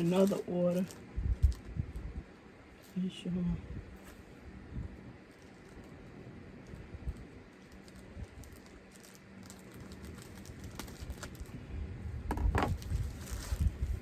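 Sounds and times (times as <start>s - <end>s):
yarn packaging clicks and rustles: 0.0s - 11.6s, 12.3s - 14.0s.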